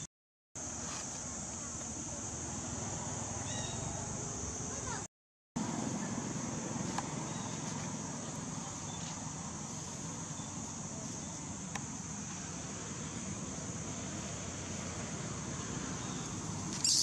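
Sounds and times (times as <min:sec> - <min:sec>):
high insect drone: 0:00.6 - 0:17.0.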